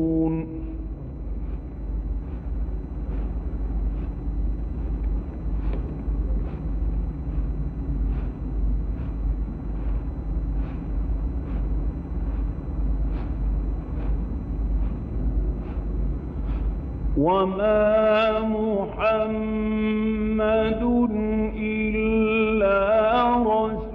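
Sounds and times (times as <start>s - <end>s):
recording rumble and hiss: 0.0s - 23.9s.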